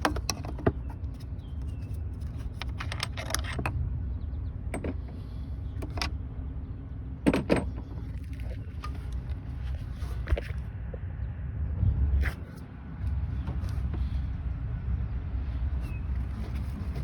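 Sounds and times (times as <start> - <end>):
low rumble: 2.0 - 17.0.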